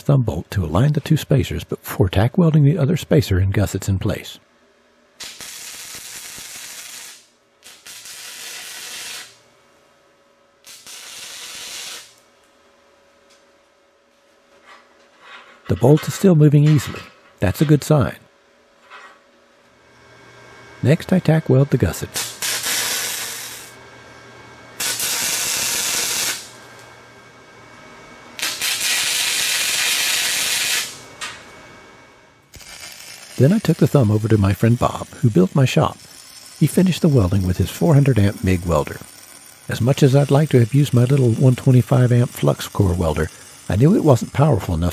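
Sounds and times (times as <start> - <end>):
welder arc crackling and hissing: 5.1 - 44.9.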